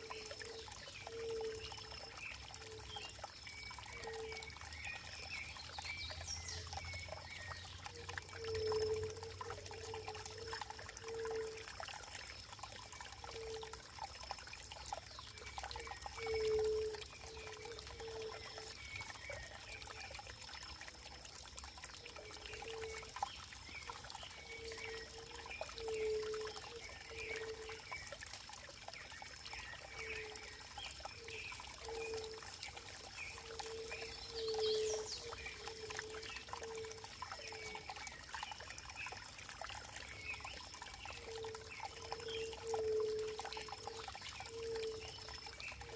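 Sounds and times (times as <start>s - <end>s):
running water trickling: 0.0s - 45.9s.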